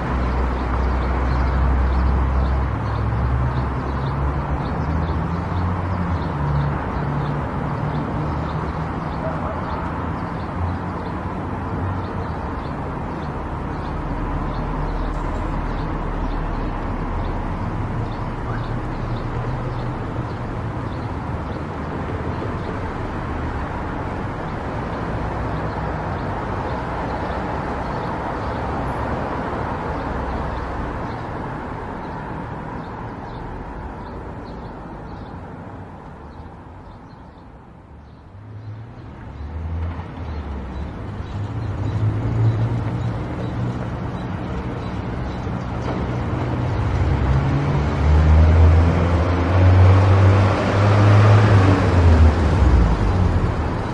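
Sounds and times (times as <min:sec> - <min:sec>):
car road noise: 0:00.0 - 0:37.0, 0:37.6 - 0:53.9.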